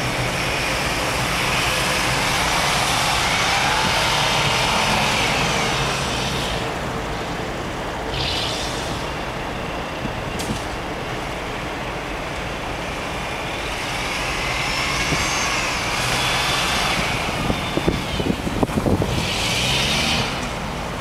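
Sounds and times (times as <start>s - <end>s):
van engine revving: 0.0s - 9.5s, 13.3s - 21.0s.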